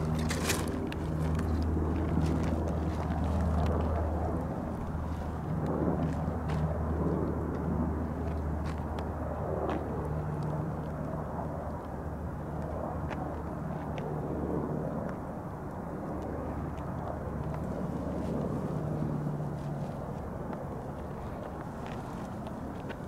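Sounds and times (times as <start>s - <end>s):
distant engine drone: 0.0s - 23.0s.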